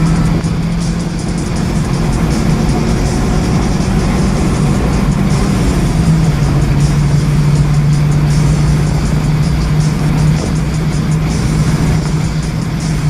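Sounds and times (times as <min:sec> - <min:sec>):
car engine drone: 0:00.0 - 0:13.0
music: 0:00.0 - 0:13.0
road and wind noise: 0:00.0 - 0:13.0.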